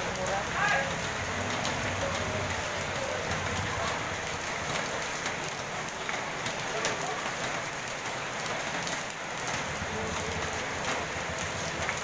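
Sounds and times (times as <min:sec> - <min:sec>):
rain on roofs and pavement: 0:00.0 - 0:12.0.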